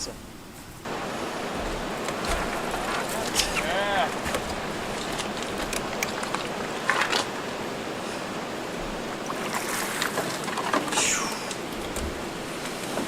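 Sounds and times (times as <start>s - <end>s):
water rushing around canoe: 0.8s - 13.0s.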